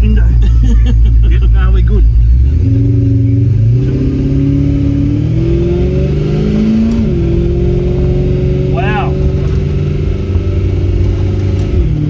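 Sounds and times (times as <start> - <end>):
car engine pulling under throttle: 0.0 - 12.0.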